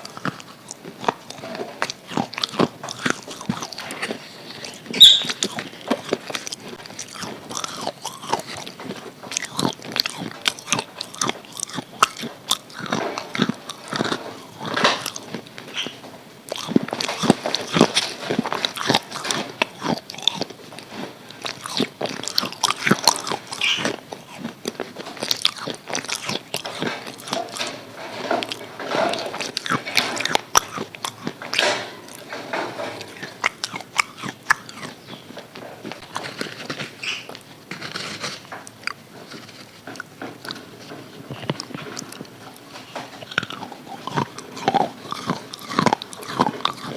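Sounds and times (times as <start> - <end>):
crunching fried chicken: 0.0 - 46.9
soft chewing: 0.0 - 46.9.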